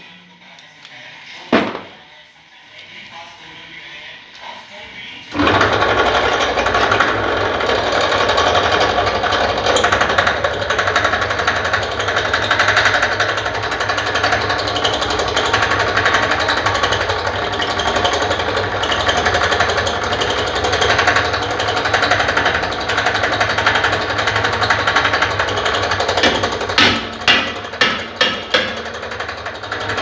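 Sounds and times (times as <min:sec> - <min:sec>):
machine rattling: 0:01.4 - 0:02.0, 0:02.9 - 0:30.0.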